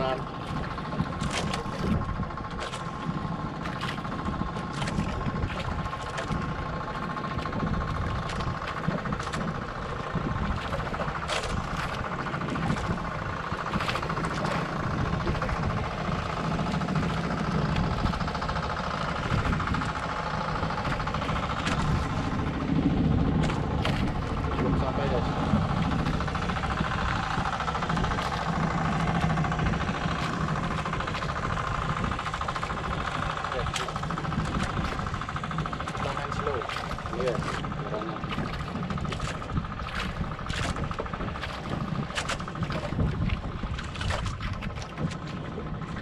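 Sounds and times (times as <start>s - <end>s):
boat engine idling: 0.0s - 46.0s.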